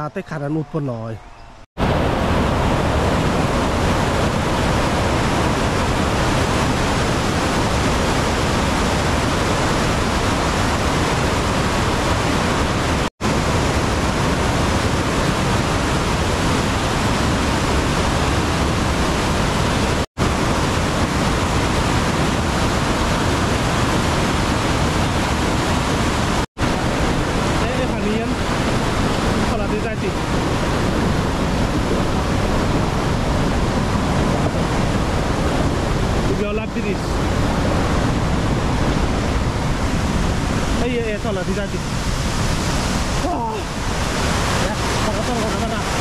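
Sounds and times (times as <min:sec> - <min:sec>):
water rushing down spillway: 0:01.8 - 0:46.0.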